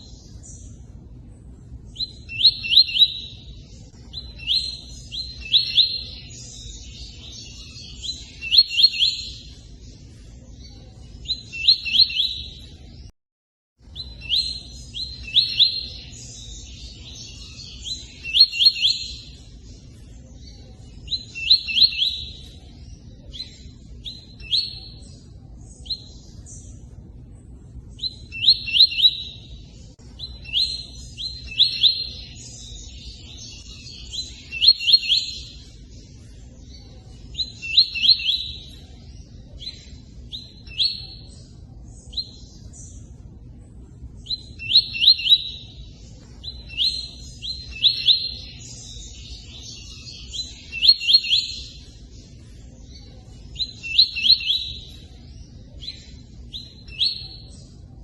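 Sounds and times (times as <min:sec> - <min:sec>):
bird chirping: 0:00.0 - 0:13.1, 0:13.8 - 0:58.0.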